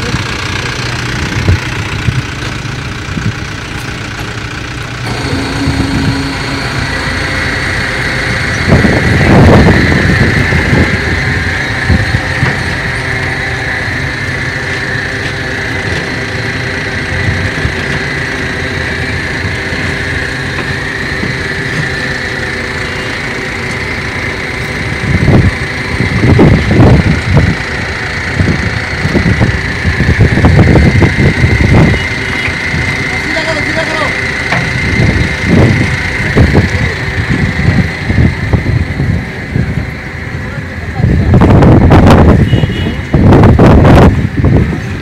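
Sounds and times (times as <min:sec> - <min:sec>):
steady high whine: 0:00.0 - 0:45.0
truck engine running: 0:00.0 - 0:45.0
loud surge of noise: 0:05.0 - 0:45.0.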